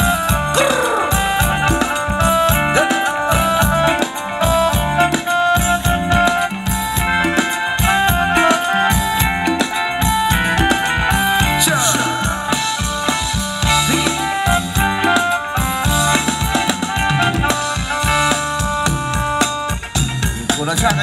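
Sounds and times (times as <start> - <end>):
drum kit beat: 0.0 - 21.0
live band dance music: 0.0 - 21.0.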